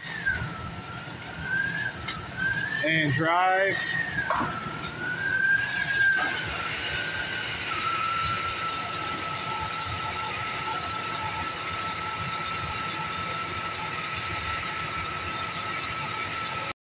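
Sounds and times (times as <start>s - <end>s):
engine idling: 0.0s - 16.7s
high-pitched whine: 0.0s - 16.8s.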